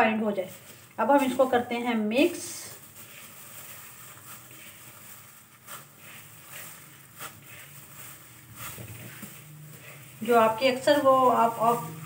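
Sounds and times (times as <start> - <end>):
gloved hand mixing in plastic bowl: 0.0 - 12.0.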